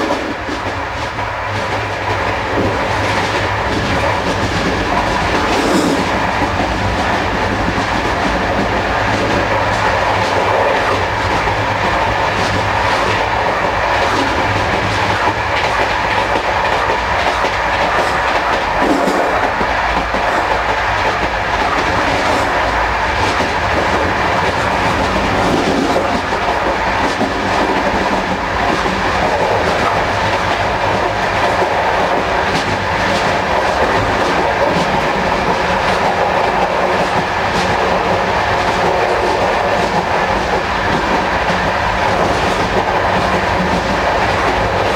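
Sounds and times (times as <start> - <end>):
rumble of train wheels on track: 0.0 - 44.9
wheels clacking over rail joints: 0.0 - 44.9.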